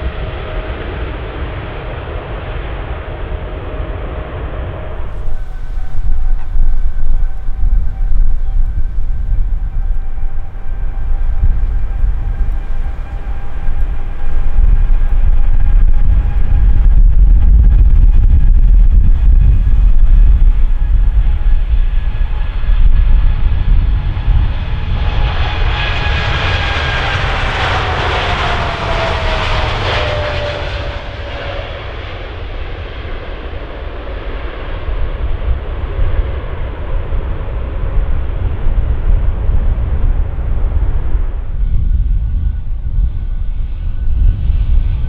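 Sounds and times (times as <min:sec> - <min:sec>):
jet airliner passing: 0:00.0 - 0:45.0.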